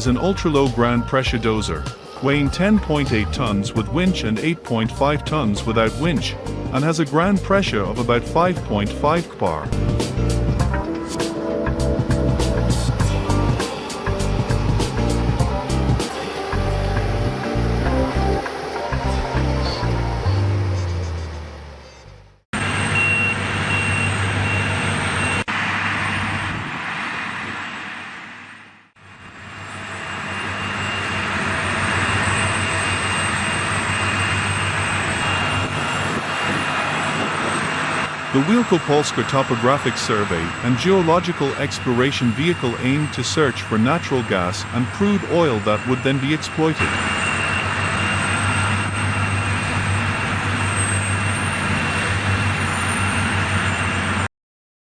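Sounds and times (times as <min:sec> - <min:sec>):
heavy vehicle engine running: 0:00.0 - 0:54.3.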